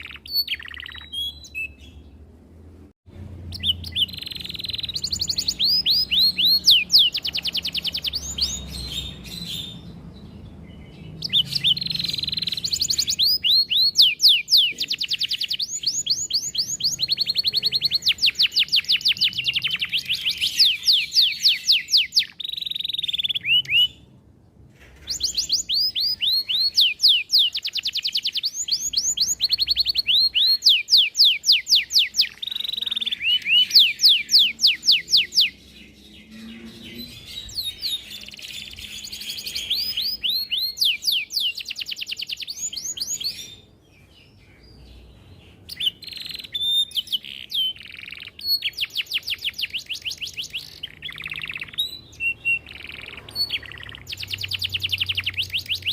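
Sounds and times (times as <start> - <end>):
canary singing trills: 0.0 - 2.4, 3.2 - 24.2, 24.9 - 55.9.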